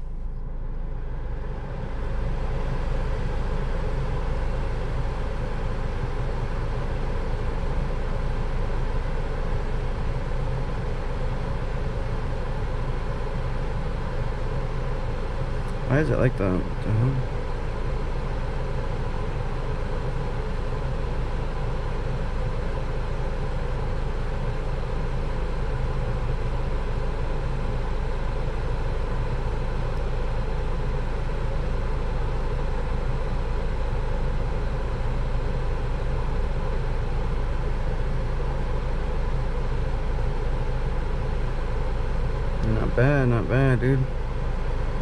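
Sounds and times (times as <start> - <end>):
car engine low rumble: 0.0 - 45.0.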